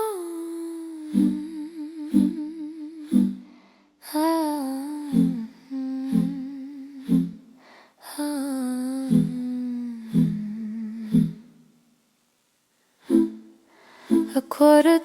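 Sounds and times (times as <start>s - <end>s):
person humming a melody: 0.0s - 11.6s, 13.1s - 13.5s, 14.1s - 15.0s.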